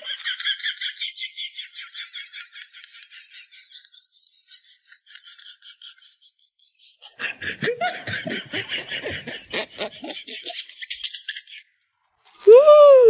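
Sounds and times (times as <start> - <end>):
snickering laughter: 0.0 - 11.7.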